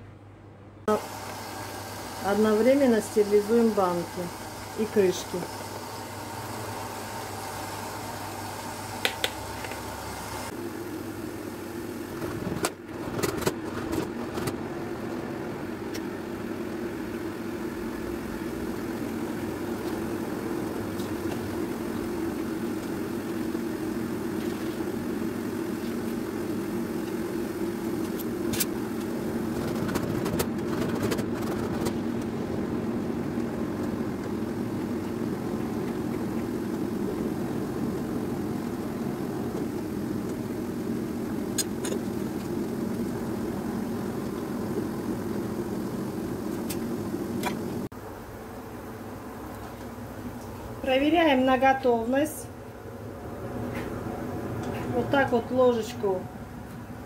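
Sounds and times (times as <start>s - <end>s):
jam boiling and bubbling: 0.9s - 57.0s.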